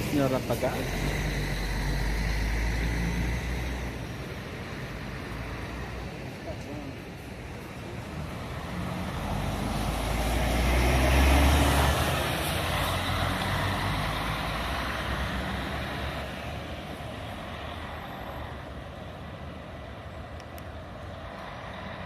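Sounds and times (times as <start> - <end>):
bus diesel engine passing: 0.0 - 22.0.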